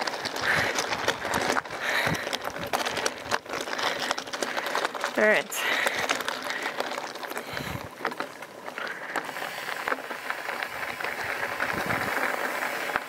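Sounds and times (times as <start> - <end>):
bicycle tyres crunching on gravel: 0.0 - 13.0.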